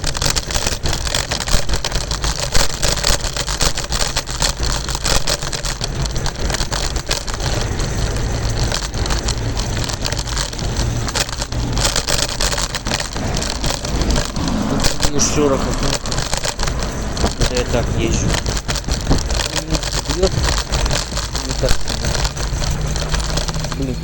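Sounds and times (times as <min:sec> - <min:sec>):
kick scooter rolling on pavement: 0:00.0 - 0:24.0.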